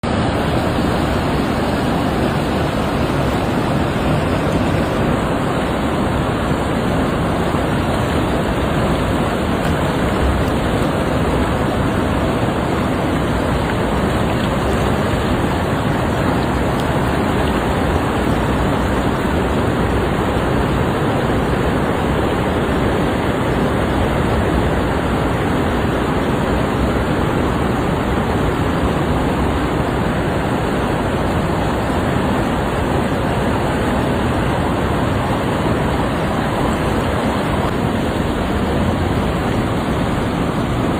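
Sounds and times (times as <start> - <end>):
floodwater rushing: 0.0 - 40.9.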